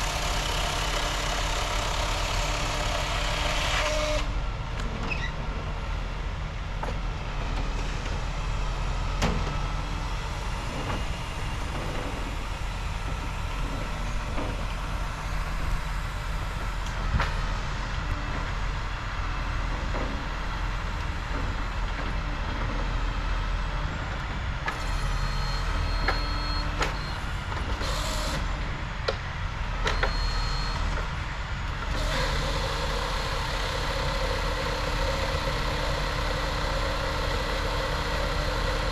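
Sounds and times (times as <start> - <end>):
truck engine running: 0.0 - 3.6, 4.2 - 38.9.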